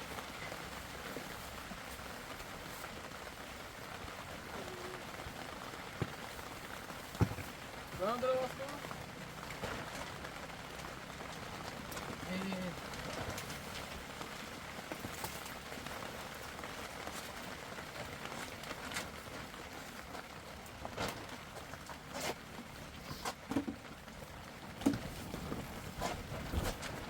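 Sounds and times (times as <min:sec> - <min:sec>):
rain hiss: 0:00.0 - 0:27.0.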